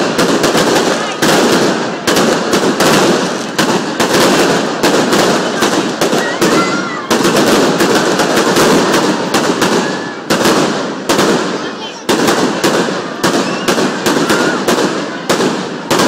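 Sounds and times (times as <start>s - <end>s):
crackling hiss of fireworks: 0.0s - 16.0s
fireworks bangs: 0.0s - 16.0s.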